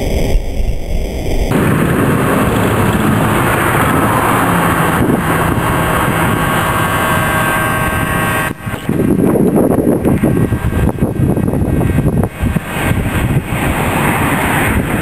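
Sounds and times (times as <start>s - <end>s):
model boat motor whirring: 1.5s - 14.6s
water rushing: 1.5s - 15.0s.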